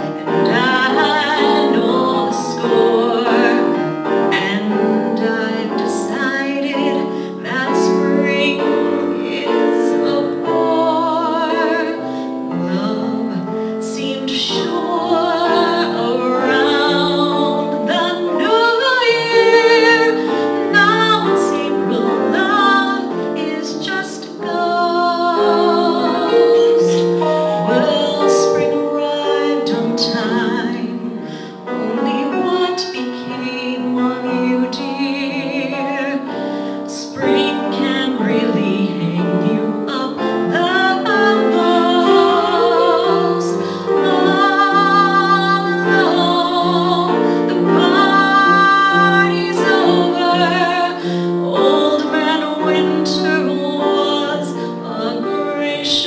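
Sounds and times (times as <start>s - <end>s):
instrumental accompaniment: 0.0s - 56.0s
woman singing with vibrato: 0.0s - 56.0s.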